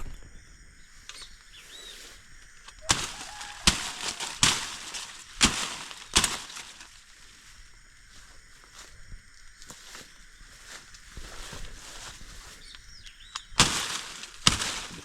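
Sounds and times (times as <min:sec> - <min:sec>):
dry vegetation crunching: 0:00.9 - 0:15.0.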